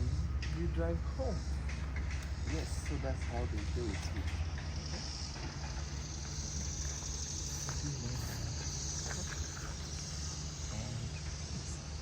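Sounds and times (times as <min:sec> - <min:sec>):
faint distant voices: 0:00.0 - 0:04.9, 0:06.6 - 0:12.0
high insect drone: 0:00.0 - 0:12.0
low engine hum: 0:00.0 - 0:12.0.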